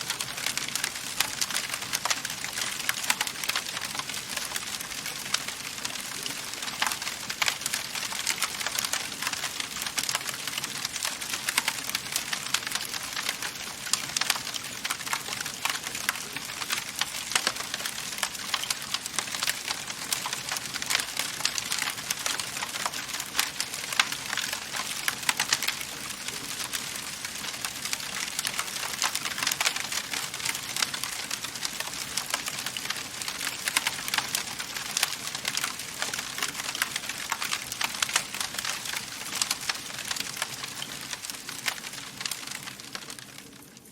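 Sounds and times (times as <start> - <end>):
soft steady hiss: 0.0 - 43.9
wood fire crackling and popping: 0.0 - 43.9.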